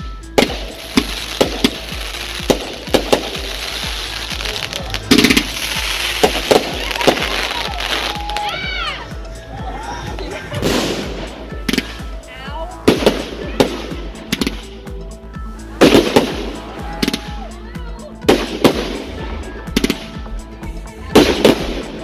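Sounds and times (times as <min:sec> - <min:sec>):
fireworks bangs and crackles: 0:00.0 - 0:09.3, 0:10.5 - 0:17.6, 0:18.2 - 0:20.3, 0:21.1 - 0:22.0.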